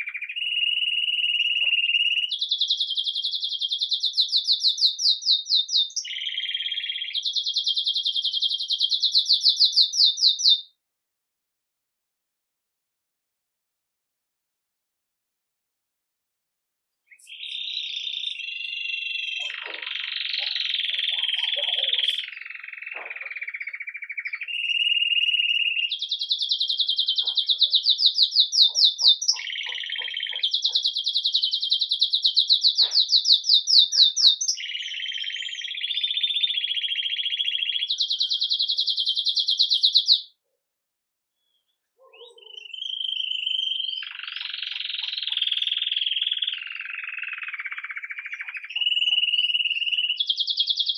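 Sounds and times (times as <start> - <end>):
canary singing trills: 0.0 - 10.7, 17.1 - 40.4, 42.0 - 50.9.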